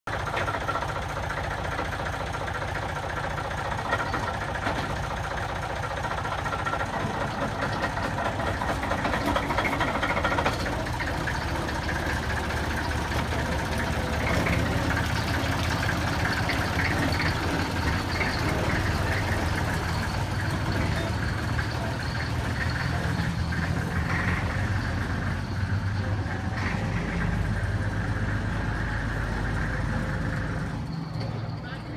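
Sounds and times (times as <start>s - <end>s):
diesel locomotive engine running: 0.0s - 31.9s.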